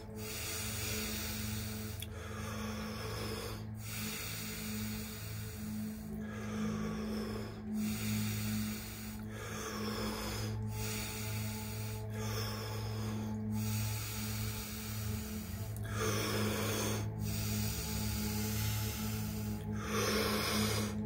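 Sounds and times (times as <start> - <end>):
deep rapid mouth breathing: 0.0 - 21.0.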